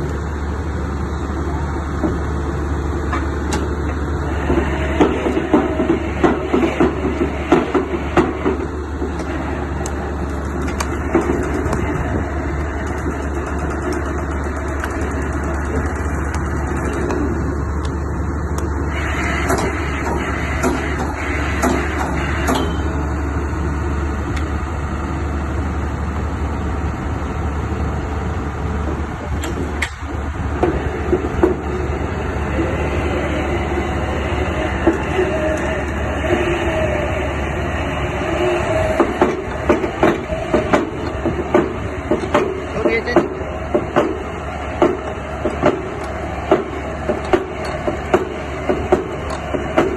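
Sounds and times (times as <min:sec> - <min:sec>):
construction machinery drone: 0:00.0 - 0:49.9.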